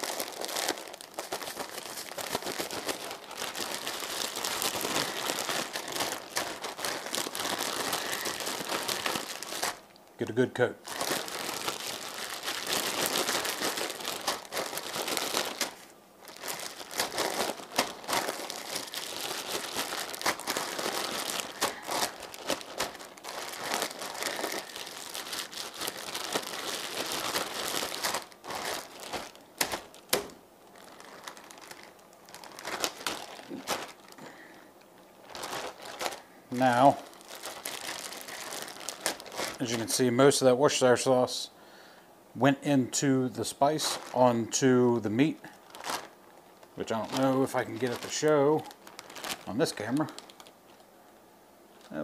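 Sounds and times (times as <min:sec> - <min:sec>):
plastic bag crinkling: 0:00.0 - 0:10.0, 0:10.8 - 0:41.2, 0:43.0 - 0:52.0.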